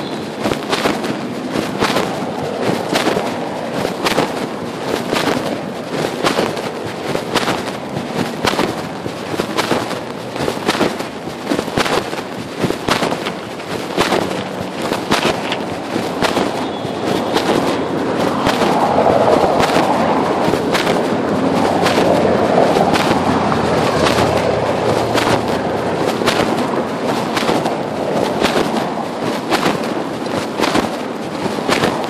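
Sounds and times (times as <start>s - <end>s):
microphone rubbing on cloth: 0.0s - 32.0s.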